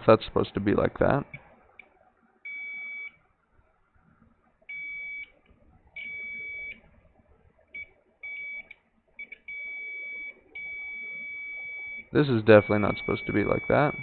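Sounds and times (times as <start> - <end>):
multimeter continuity beeps: 1.0 - 3.3, 4.6 - 14.0.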